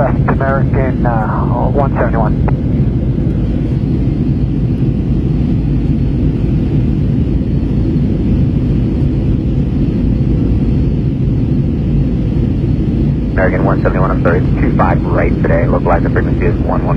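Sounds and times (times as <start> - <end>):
airliner cabin engine rumble: 0.0 - 16.9.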